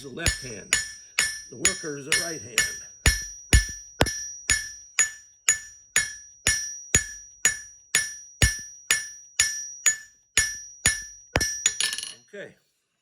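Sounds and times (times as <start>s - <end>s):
hammer striking steel on anvil: 0.0s - 12.1s
anvil ringing: 0.0s - 12.2s.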